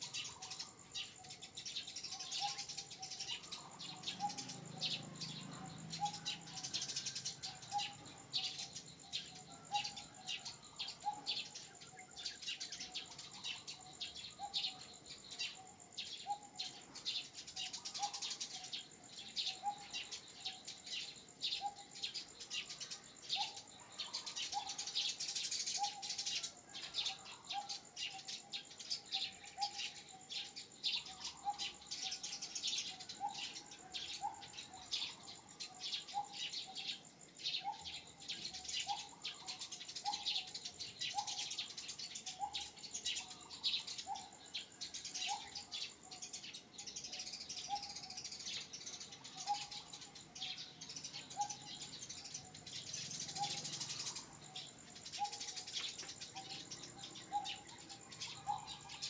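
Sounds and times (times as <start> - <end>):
birds chirping: 0.0 - 59.0
insect whine: 0.0 - 59.0.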